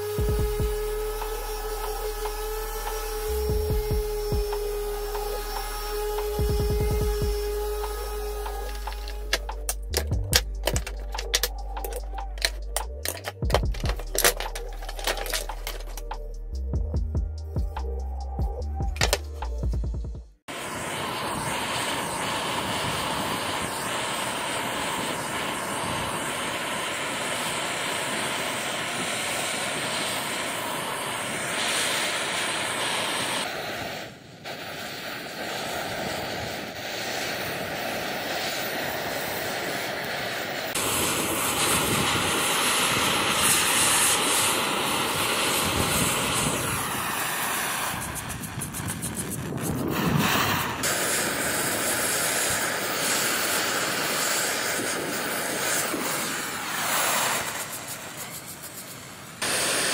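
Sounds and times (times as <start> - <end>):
butane torch hissing: 0.0 - 16.2, 20.4 - 59.9.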